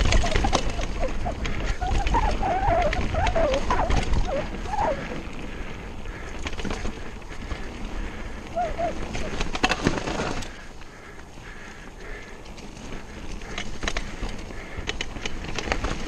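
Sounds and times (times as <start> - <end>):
bike knocking and rattling: 0.0 - 16.0
bike tyres on dirt: 0.0 - 16.0.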